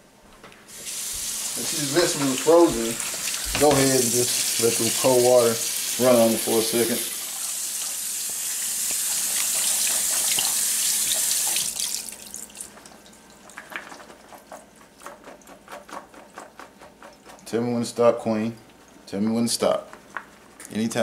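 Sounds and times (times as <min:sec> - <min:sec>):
faucet running water: 0:00.7 - 0:17.6.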